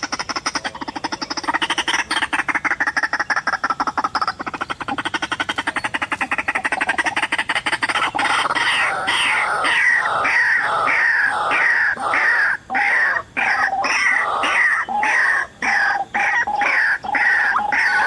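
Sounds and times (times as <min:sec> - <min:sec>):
waterhen croaking chatter: 0:00.0 - 0:18.0.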